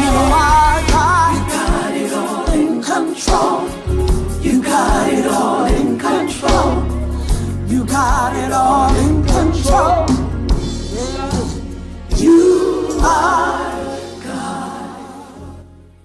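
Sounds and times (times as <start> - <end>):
bass: 0.0 - 1.8, 3.7 - 16.0
lead singer singing: 0.0 - 7.0, 7.6 - 15.6
drum kit: 0.0 - 14.8
backing singers: 0.0 - 15.6.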